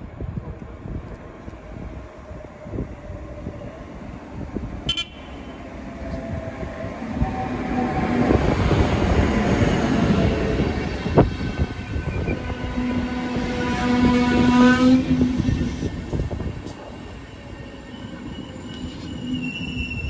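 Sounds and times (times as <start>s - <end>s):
train passing with wheel noise: 0.0s - 20.0s.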